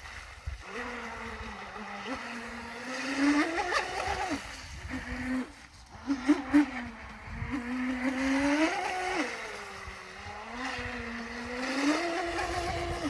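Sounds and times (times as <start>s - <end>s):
electric boat motor whining: 0.0s - 13.0s.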